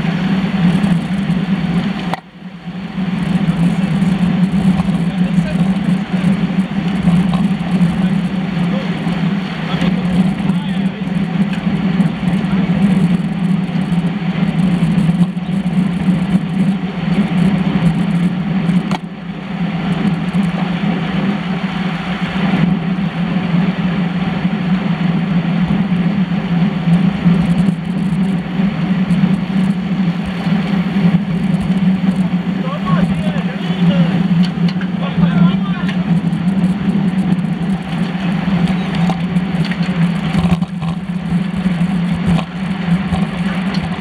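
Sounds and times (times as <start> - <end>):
bicycle riding drone: 0.0 - 44.0.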